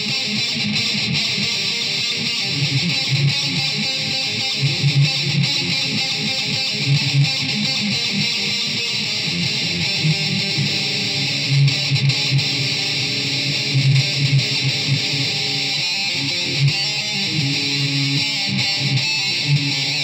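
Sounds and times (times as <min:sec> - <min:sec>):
solo electric guitar: 0:00.0 - 0:20.0.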